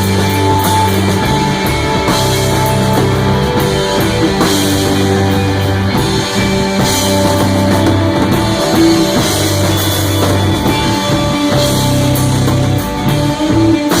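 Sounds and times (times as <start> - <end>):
cymbals: 0.0 - 14.0
low bass notes: 0.0 - 14.0
rock band playing live: 0.0 - 14.0.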